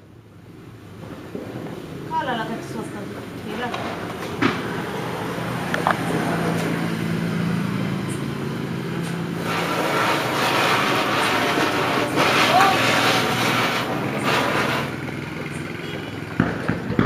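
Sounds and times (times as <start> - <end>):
firework spraying sparks hissing: 0.6 - 17.0.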